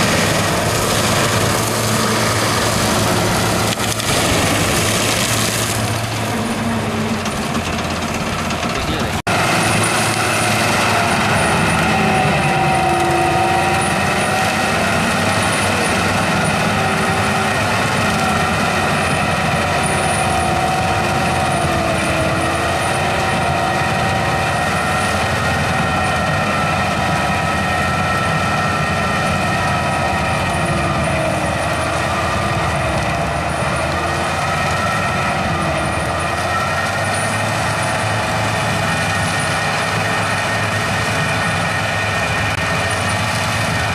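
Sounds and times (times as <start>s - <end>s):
tractor engine under load: 0.0s - 43.9s.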